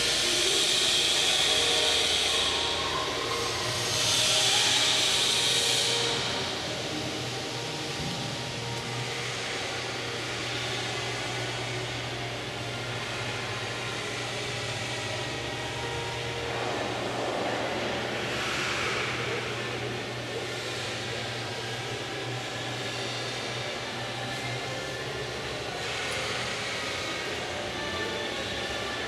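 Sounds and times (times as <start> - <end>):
fan humming with airy hiss: 0.0 - 29.0.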